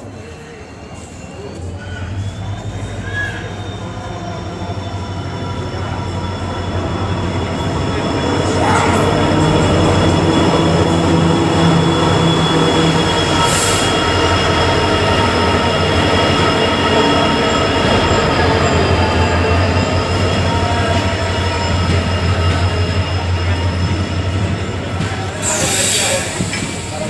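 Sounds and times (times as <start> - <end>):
low train rumble: 0.0 - 27.0
train wheels squealing: 0.0 - 27.0.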